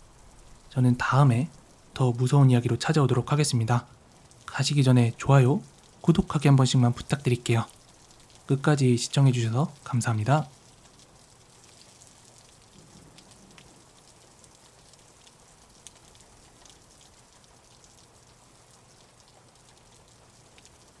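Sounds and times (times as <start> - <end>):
faint steady rain: 0.0 - 21.0
raindrops ticking: 0.0 - 21.0.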